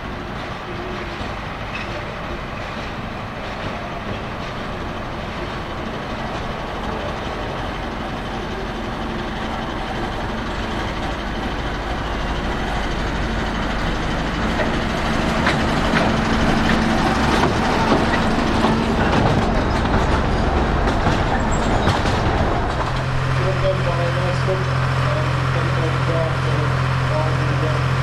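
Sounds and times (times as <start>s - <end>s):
train passing: 0.0s - 28.0s.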